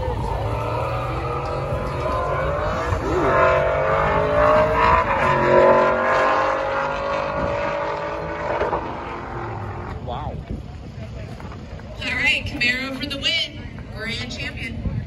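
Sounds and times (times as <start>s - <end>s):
drag racing engines accelerating: 0.0s - 14.8s.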